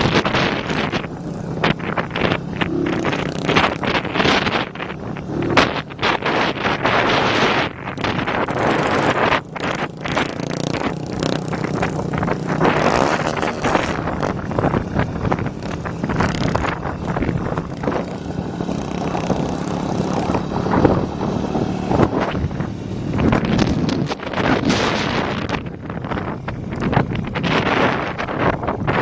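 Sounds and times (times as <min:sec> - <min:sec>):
motorcycle exhaust: 0:00.0 - 0:29.0
wind buffeting microphone: 0:00.0 - 0:29.0.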